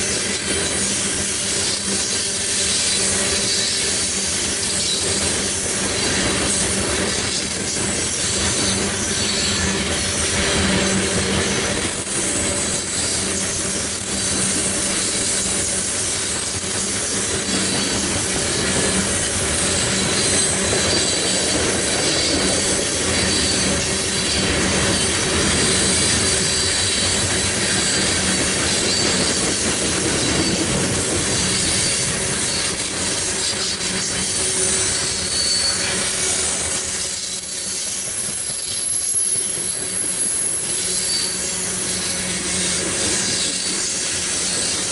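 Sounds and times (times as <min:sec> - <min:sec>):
train cars rumbling on rails: 0:00.0 - 0:44.9
wheel squeal: 0:00.0 - 0:44.9.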